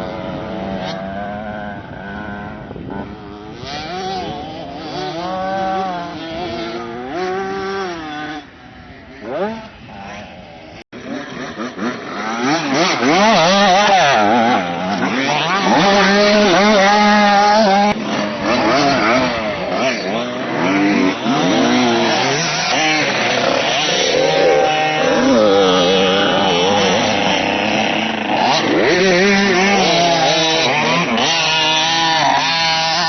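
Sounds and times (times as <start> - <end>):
motocross engines revving: 0.0 - 33.0.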